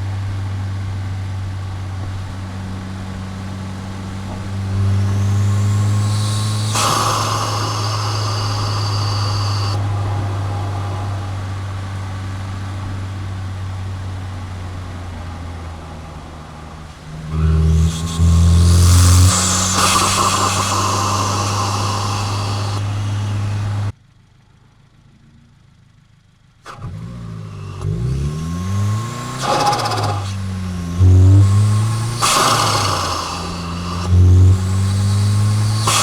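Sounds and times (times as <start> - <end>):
turbo rush: 0.0 - 23.9, 28.2 - 36.0
car engine revving: 0.0 - 24.0, 26.7 - 36.0.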